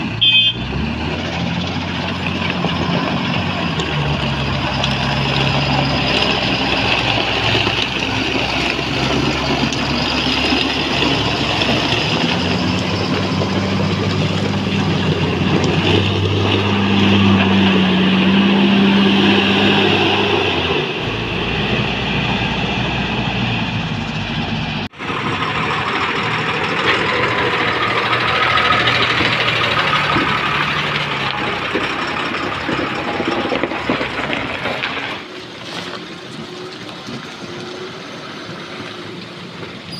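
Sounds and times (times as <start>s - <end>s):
diesel engines revving: 0.0s - 39.9s
diesel truck engine running: 0.0s - 39.9s.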